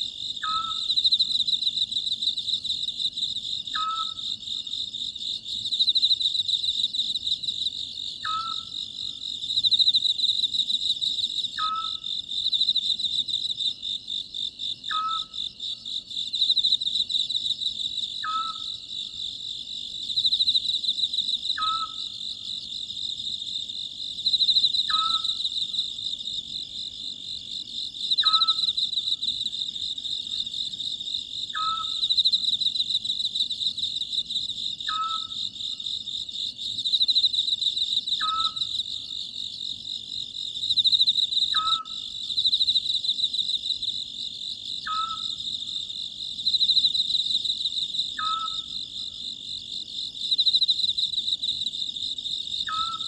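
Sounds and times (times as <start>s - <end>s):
crickets chirring: 0.0s - 53.0s.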